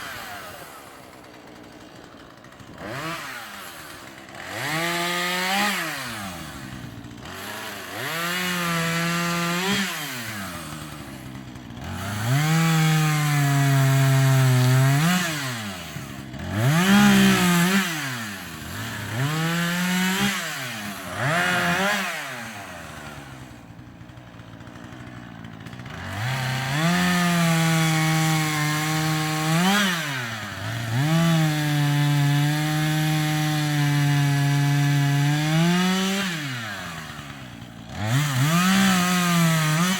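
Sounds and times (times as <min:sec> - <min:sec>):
chainsaw idling: 0:00.0 - 0:39.9
chainsaw revving and cutting wood: 0:00.0 - 0:39.9.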